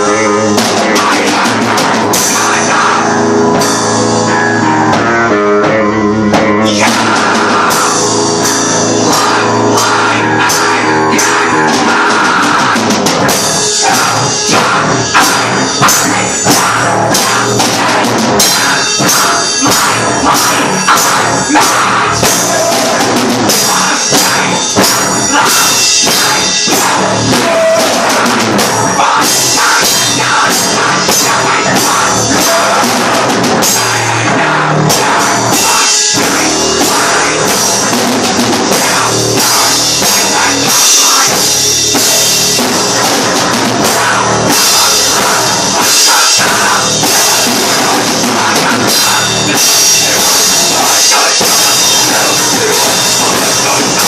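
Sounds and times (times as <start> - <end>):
drum kit: 0.0 - 54.0
rock band playing heavy song: 0.0 - 54.0.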